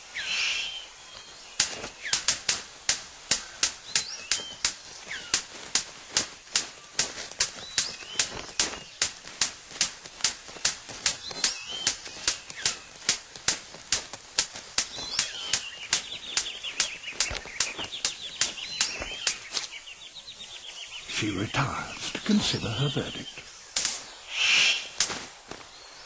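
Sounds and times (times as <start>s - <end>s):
rapid falling bird notes: 0.0s - 26.0s
bird sharp clicks: 0.2s - 25.7s.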